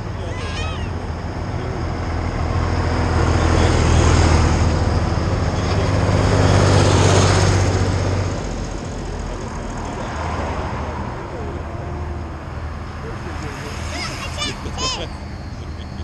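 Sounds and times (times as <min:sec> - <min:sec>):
tractor engines passing: 0:00.0 - 0:16.0.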